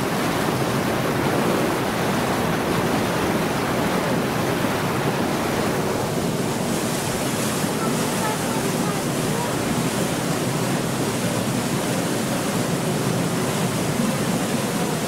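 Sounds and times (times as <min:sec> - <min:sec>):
water wash: 0:00.0 - 0:15.0.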